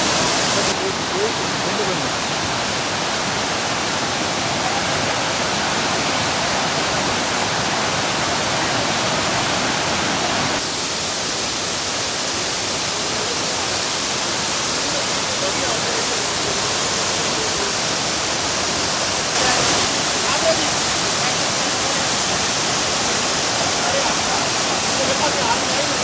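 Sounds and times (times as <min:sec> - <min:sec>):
waterfall rushing roar: 0:00.0 - 0:26.0.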